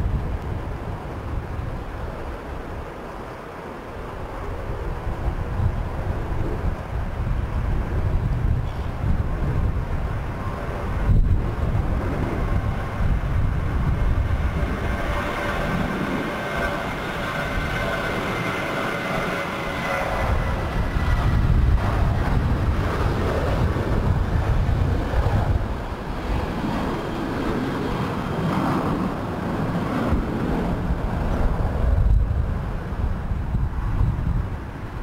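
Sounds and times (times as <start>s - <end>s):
high jet engine whine: 0.0s - 35.0s
jet engines deep rumble: 0.0s - 35.0s.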